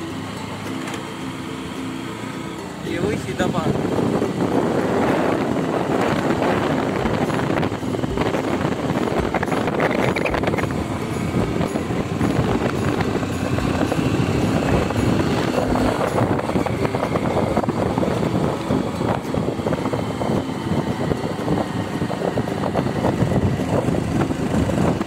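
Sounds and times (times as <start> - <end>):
motorbike engine running: 0.0 - 25.0
wind rushing over microphone: 2.8 - 25.0.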